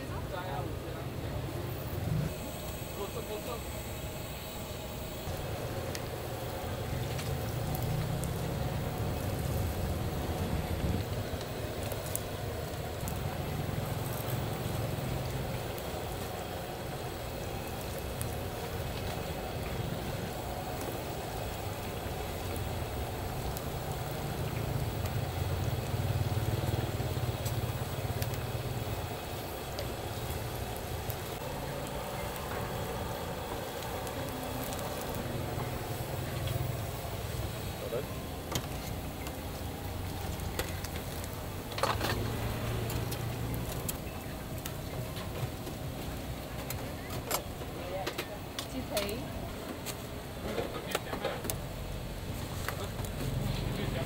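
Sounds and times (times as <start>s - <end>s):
chicken sizzling in hot oil: 0.1s - 54.0s.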